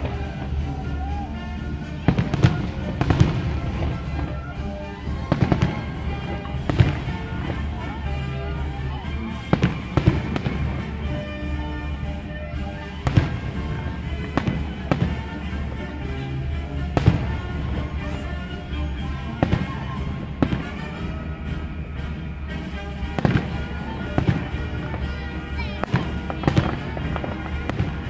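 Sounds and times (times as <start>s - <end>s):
firework shells bursting: 0.0s - 28.0s
music playing: 0.0s - 28.0s.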